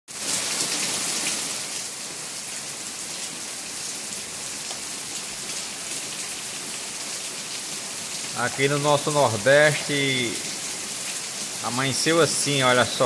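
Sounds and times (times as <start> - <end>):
rain on plants and paving: 0.1 - 13.0.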